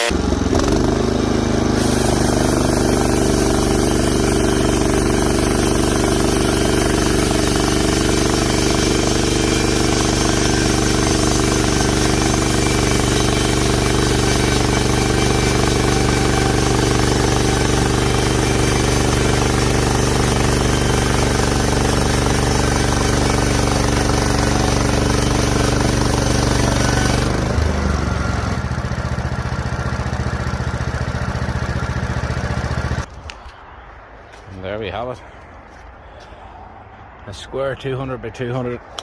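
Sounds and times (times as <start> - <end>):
saw cutting timber: 0.0 - 33.1
sawmill engine running: 0.0 - 33.1.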